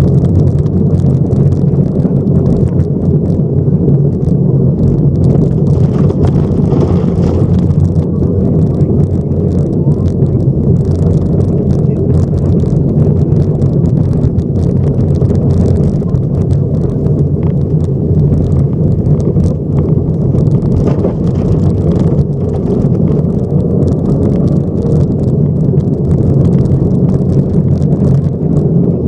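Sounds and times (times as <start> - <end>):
gravel rattling against underbody: 0.0 - 29.0
rally car engine running hard: 0.0 - 29.0.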